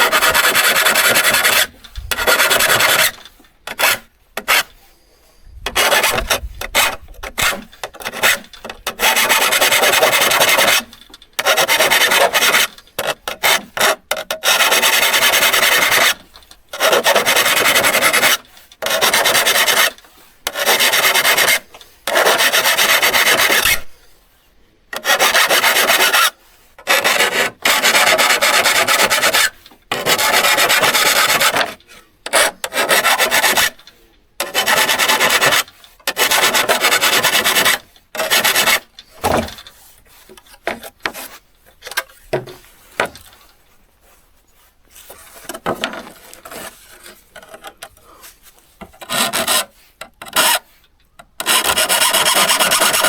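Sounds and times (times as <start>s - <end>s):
hand rasp on steel saw blade: 0.0s - 4.8s, 5.6s - 24.1s, 24.9s - 43.5s, 44.9s - 53.0s.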